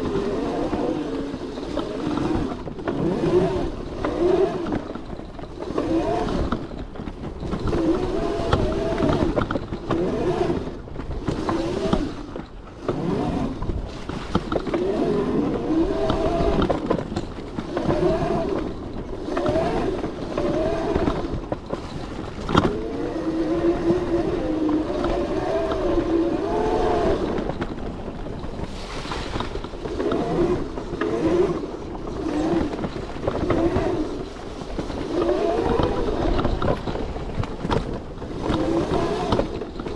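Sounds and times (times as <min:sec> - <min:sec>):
electric motor whining: 0:00.0 - 0:36.8, 0:38.2 - 0:39.9
tyre noise on trail: 0:00.0 - 0:39.9
wind noise: 0:00.0 - 0:39.9.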